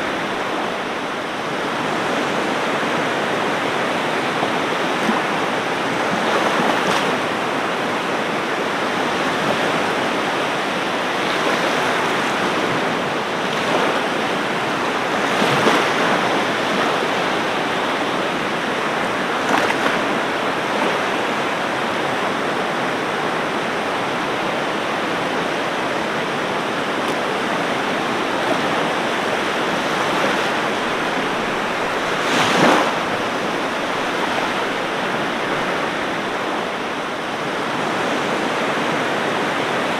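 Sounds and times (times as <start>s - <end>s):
ocean surf washing onto beach: 0.0s - 39.9s
waves breaking: 0.0s - 39.9s.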